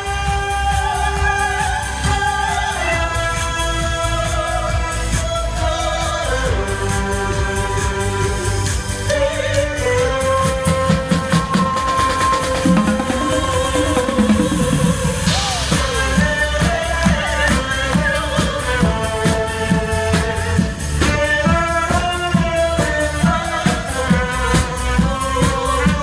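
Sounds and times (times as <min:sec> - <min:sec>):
drum beat: 0:00.0 - 0:26.0
person singing: 0:00.0 - 0:26.0.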